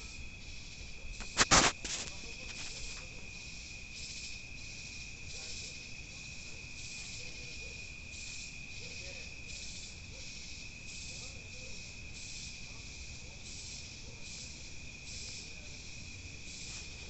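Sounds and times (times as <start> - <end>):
crickets trilling: 0.0 - 17.0
insects buzzing chorus: 0.0 - 17.0.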